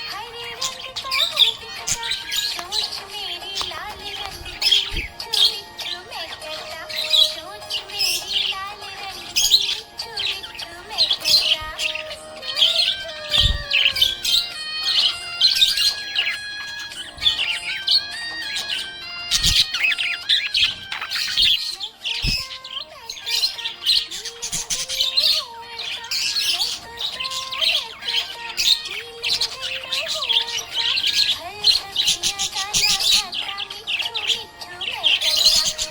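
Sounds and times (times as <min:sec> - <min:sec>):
budgerigars chirping: 0:00.0 - 0:35.9.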